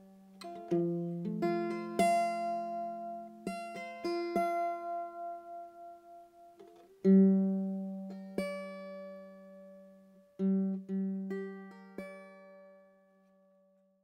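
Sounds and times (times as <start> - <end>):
plucked guitar music: 0.0 - 13.6.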